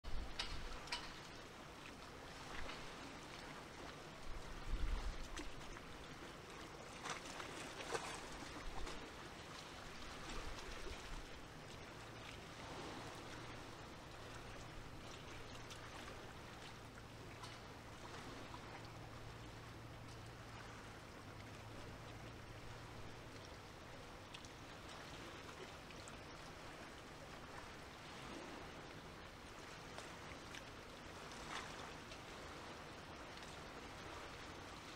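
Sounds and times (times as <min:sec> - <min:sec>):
sea water lapping: 0:00.1 - 0:34.9.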